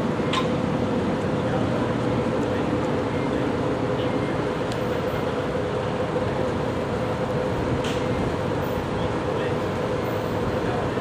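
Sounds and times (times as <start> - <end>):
constant hum: 0.0 - 11.0
train mechanical drone: 0.0 - 11.0.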